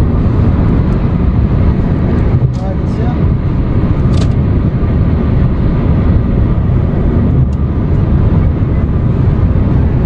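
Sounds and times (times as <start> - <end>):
road and wind noise inside car: 0.0 - 10.0.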